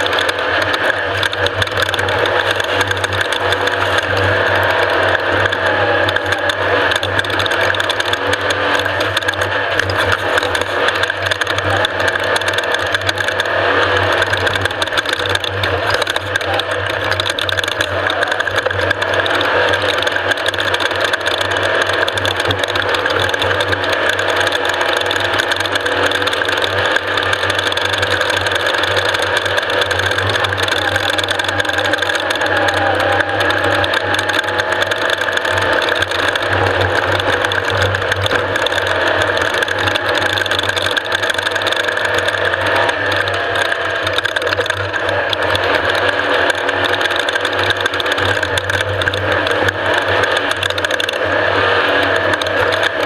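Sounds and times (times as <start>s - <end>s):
off-road vehicle engine: 0.0s - 53.0s
vehicle rattling: 0.0s - 53.0s.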